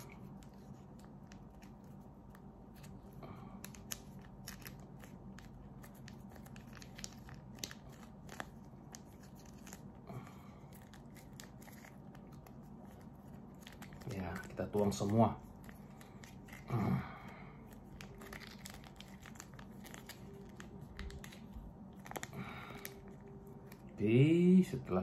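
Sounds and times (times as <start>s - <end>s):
plastic sachet crinkling: 0.0s - 24.9s.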